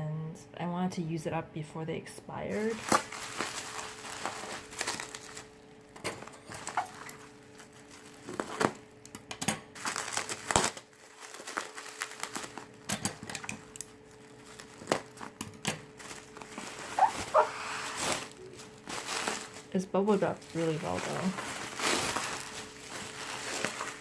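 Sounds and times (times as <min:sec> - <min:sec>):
bubble wrap crinkling: 0:02.5 - 0:09.0, 0:09.7 - 0:24.0.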